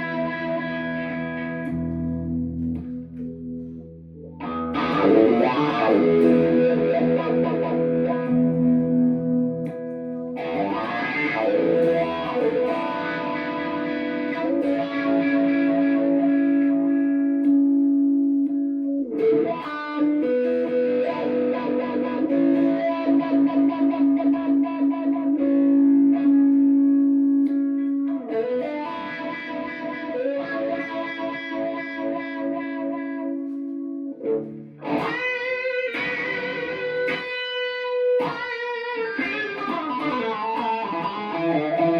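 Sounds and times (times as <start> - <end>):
electric guitar with wah pedal: 0.0 - 41.9.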